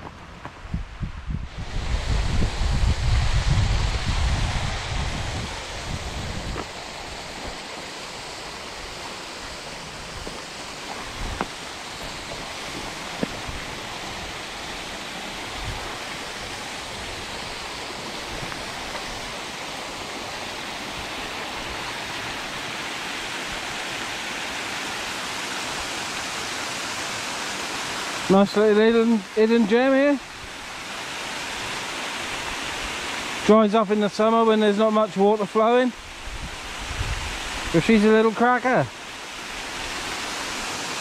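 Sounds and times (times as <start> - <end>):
waterfall rushing over rocks: 1.5 - 41.0.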